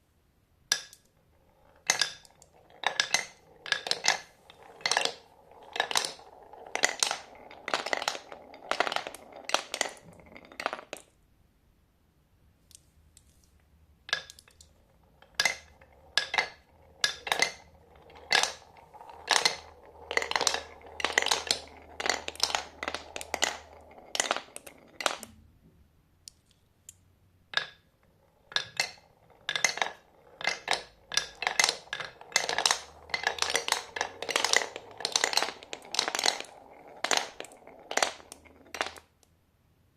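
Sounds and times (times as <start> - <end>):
marbles clacking down a run: 0.7 - 11.1, 14.1 - 25.3, 27.6 - 39.2
marbles rolling rattle: 0.7 - 11.1, 14.1 - 25.3, 27.6 - 39.2.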